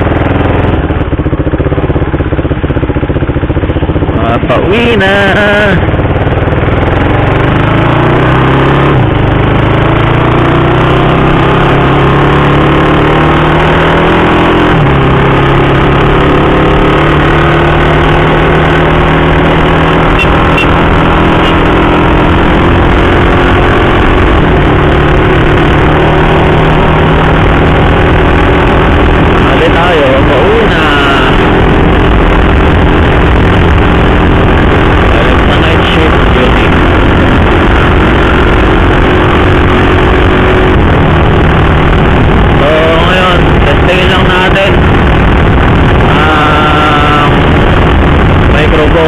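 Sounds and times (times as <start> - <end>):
motorcycle engine: 0.0 - 49.0
wind rushing: 5.8 - 49.0.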